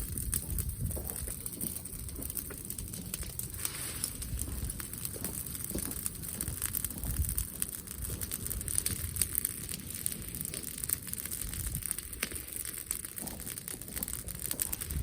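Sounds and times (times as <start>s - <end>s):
bonfire crackling: 0.0s - 15.0s
fire popping: 0.0s - 15.0s.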